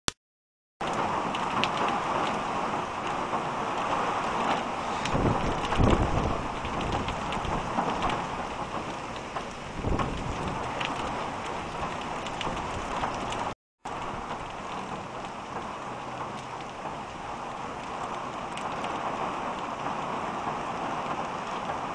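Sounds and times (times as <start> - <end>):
heavy rain on road: 0.8 - 21.9
wind gusts rumbling: 0.8 - 21.9.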